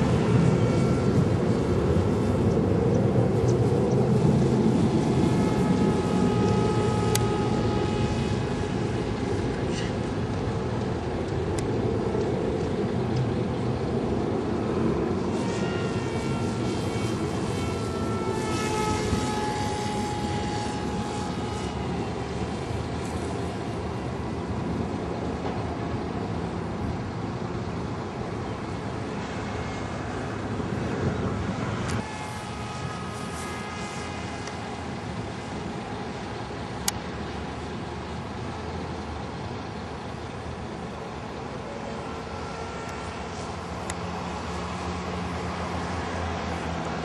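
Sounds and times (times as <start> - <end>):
model plane motor and propeller: 0.0 - 47.0.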